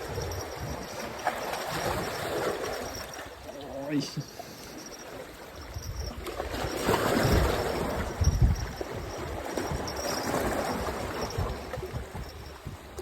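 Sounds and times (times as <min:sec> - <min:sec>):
wind rumbling on microphone: 0:00.0 - 0:03.6, 0:05.4 - 0:13.0.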